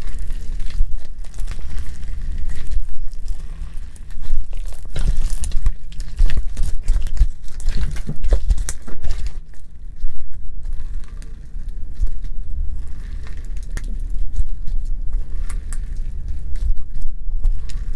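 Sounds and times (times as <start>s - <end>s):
slime crackling and tearing: 0.0s - 17.9s.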